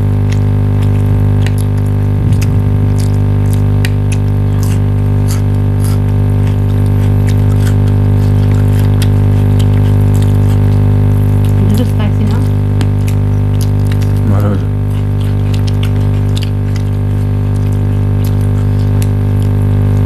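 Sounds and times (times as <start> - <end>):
people eating clicks and smacks: 0.0 - 20.0
steady low hum: 0.0 - 20.0.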